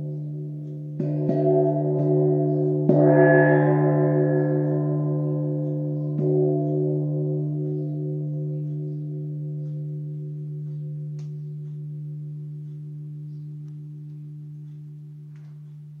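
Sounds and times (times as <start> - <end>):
gong ringing: 0.0 - 13.5.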